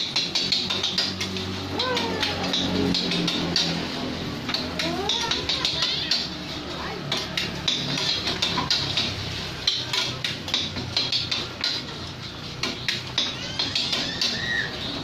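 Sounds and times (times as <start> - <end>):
metal utensils scraping pans: 0.0 - 15.0.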